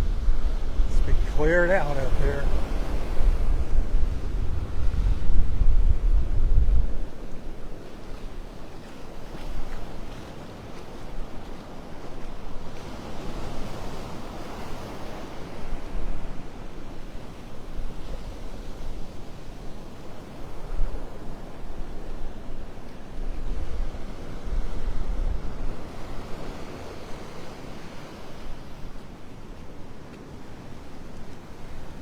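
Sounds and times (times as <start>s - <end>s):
wind buffeting microphone: 0.0s - 29.1s
surf washing up on beach: 0.0s - 32.0s.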